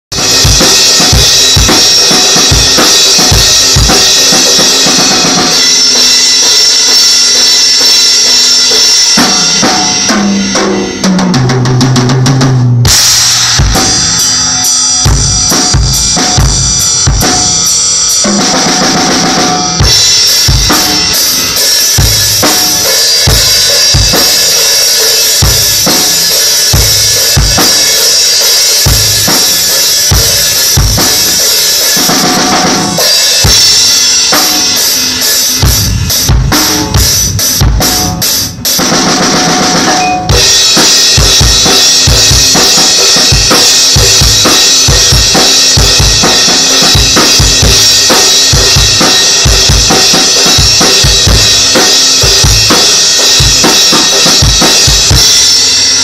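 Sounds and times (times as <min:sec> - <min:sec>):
bass drum and snare beat: 0:00.1 - 0:56.0
ringing cymbals: 0:00.2 - 0:11.0, 0:19.8 - 0:38.5, 0:39.8 - 0:56.0.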